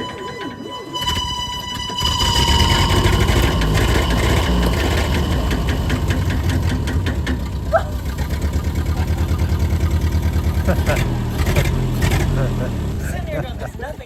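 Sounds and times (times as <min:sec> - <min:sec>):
car engine idling: 0:01.0 - 0:14.0.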